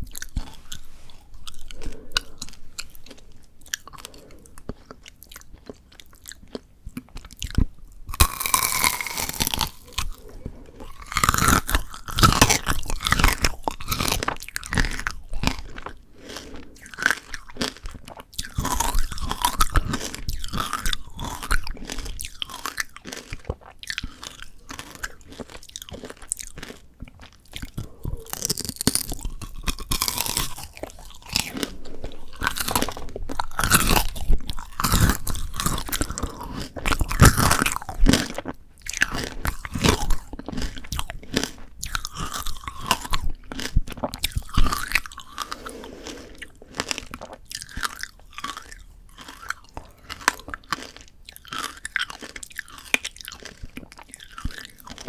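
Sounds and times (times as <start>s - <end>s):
crunching hard candy shell: 0.0s - 55.0s
wet chewing: 0.0s - 55.0s.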